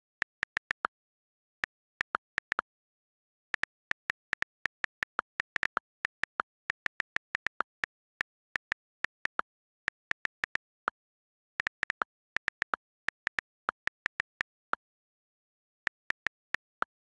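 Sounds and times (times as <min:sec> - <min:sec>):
on-screen keyboard clicks: 0:00.0 - 0:00.9, 0:01.5 - 0:02.7, 0:03.3 - 0:11.0, 0:11.6 - 0:14.9, 0:15.6 - 0:17.0.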